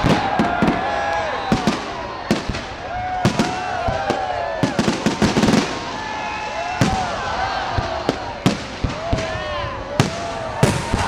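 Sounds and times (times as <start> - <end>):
crowd voices: 0.0 - 11.0
fireworks bangs and crackles: 0.0 - 11.0.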